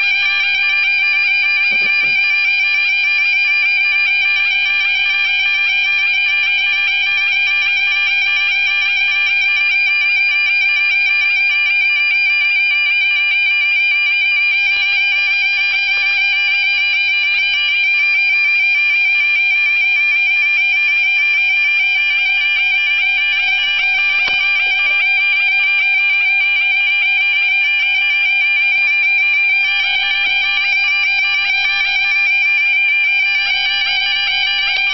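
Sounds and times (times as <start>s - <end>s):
level crossing warning alarm: 0.0s - 34.9s.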